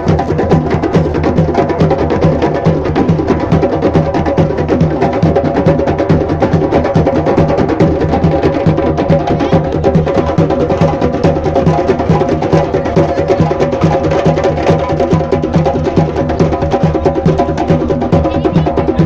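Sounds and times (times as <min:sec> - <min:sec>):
hand drums playing fast rhythm: 0:00.0 - 0:19.0.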